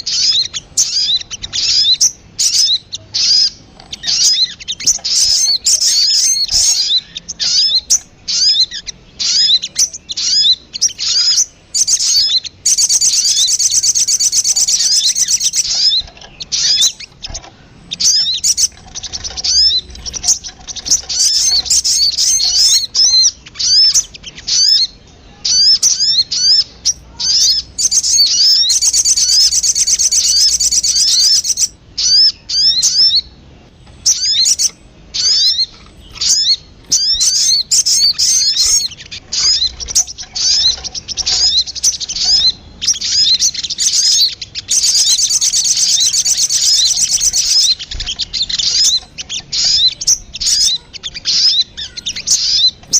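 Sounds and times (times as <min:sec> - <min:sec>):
bird chirping rapidly: 0:00.0 - 0:52.9
bird trilling: 0:00.0 - 0:52.9.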